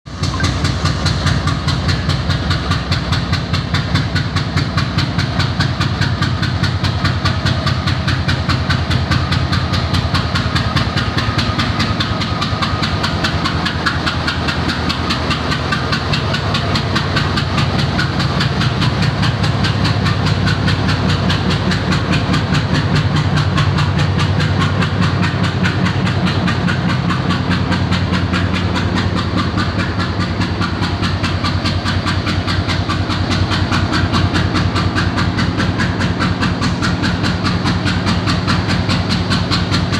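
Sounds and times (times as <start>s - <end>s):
locomotive diesel engine drone: 0.0s - 39.9s.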